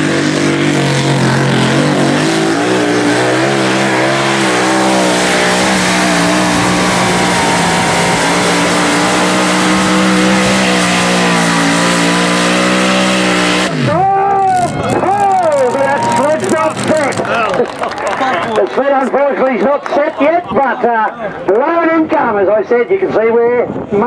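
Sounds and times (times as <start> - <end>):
tractor engine at full throttle: 0.0 - 20.7.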